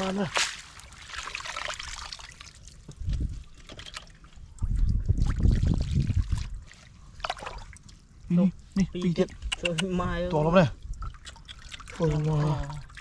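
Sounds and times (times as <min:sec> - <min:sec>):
water sloshing and splashing: 0:00.0 - 0:08.8, 0:10.4 - 0:13.0.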